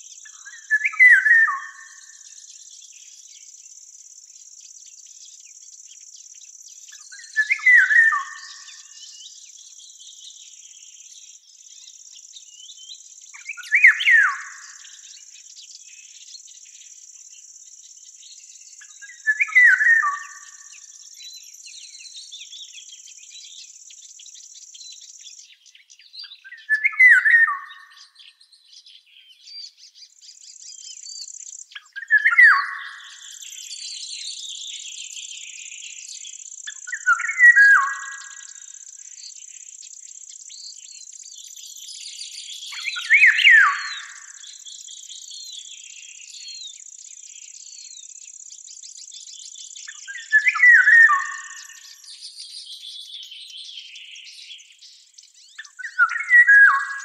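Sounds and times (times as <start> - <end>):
high-pitched insect trill: 0.0 - 26.4, 29.6 - 57.0
songbird singing: 0.0 - 57.0.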